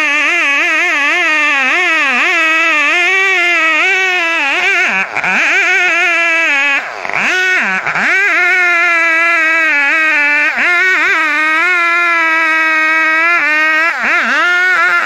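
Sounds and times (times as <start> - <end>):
chainsaw cutting tree trunk: 0.0 - 15.0.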